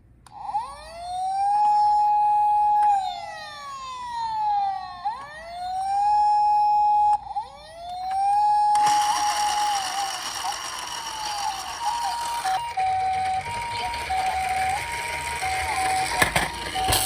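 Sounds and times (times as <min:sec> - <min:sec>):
toy car electronic siren wailing: 0:00.3 - 0:17.0.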